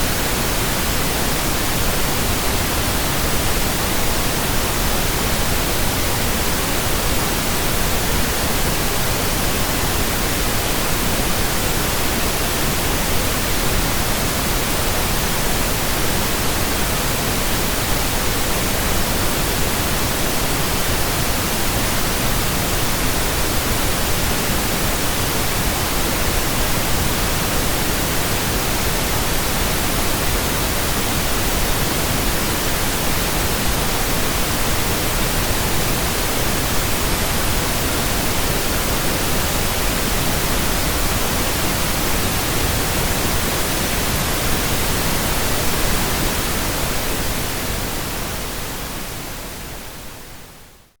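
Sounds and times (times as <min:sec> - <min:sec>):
steady pink noise hiss: 0:00.0 - 0:51.0.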